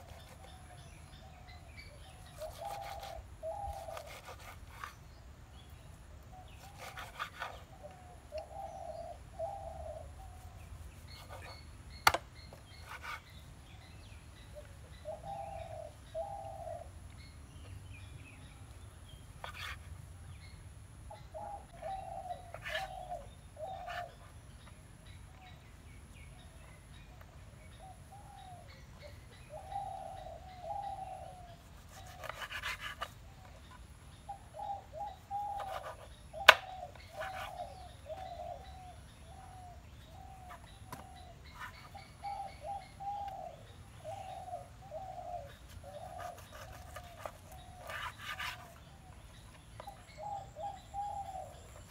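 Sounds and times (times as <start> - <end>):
bird calling: 0.0 - 5.0, 6.3 - 13.4, 14.5 - 17.7, 21.1 - 24.3, 26.6 - 51.9.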